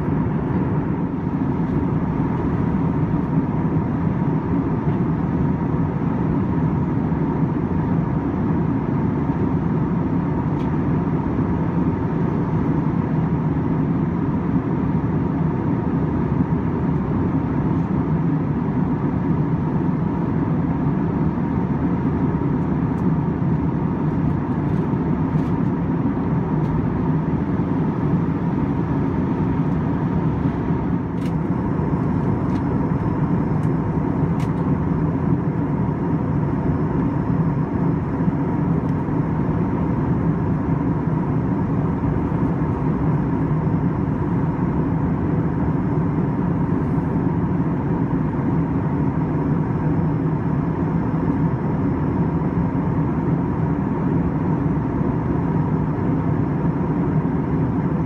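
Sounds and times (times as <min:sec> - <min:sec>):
aircraft cabin drone: 0:00.0 - 0:58.0
thin steady whine: 0:00.0 - 0:58.0.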